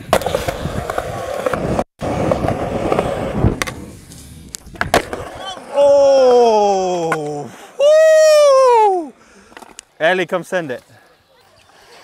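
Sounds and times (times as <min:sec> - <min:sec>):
skateboard wheels rolling on concrete: 0:00.0 - 0:12.0.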